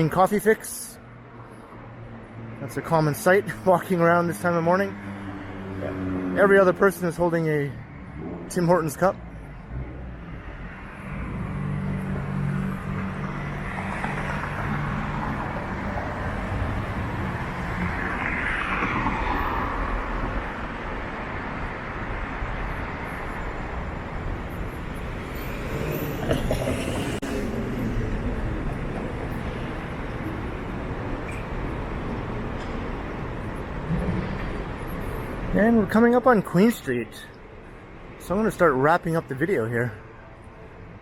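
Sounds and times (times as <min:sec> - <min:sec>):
car passing: 0:01.2 - 0:36.3.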